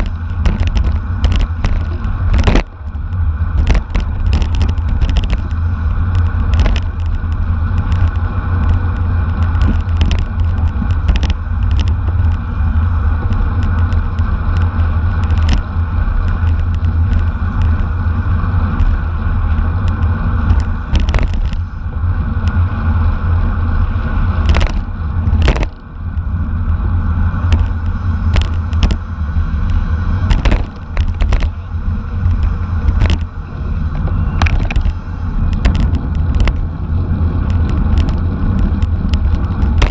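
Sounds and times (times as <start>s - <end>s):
bicycle clicks and rattles: 0.0s - 39.9s
wind buffeting microphone: 0.0s - 39.9s.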